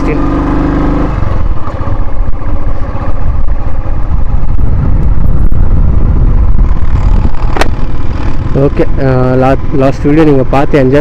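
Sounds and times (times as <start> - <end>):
motorcycle engine: 0.0 - 11.0
wind noise on microphone: 1.0 - 11.0.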